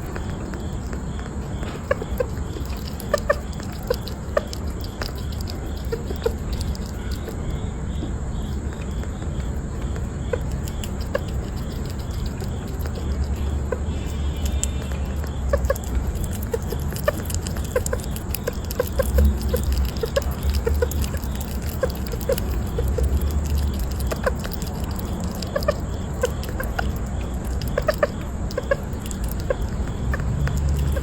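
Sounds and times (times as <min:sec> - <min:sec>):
animal clucking chirps: 0:00.0 - 0:31.0
steady low hum: 0:00.0 - 0:31.0.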